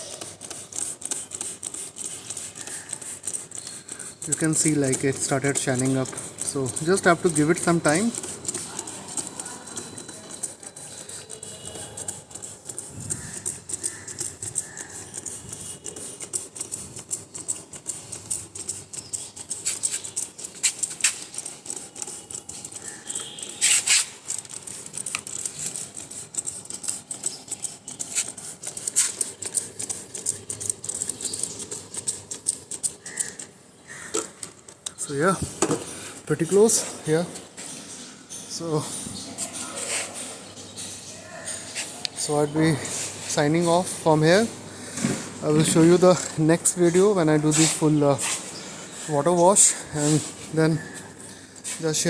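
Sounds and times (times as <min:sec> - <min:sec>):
drive chain being scrubbed: 0:00.0 - 0:34.0, 0:38.6 - 0:44.5, 0:45.4 - 0:51.0.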